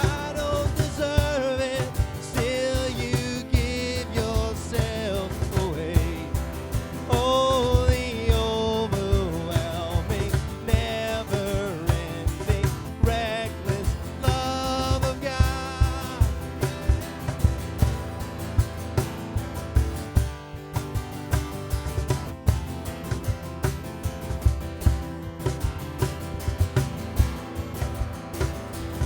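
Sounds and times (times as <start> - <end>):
acoustic guitar strumming: 0.0 - 29.0
cajon beat: 0.0 - 29.0.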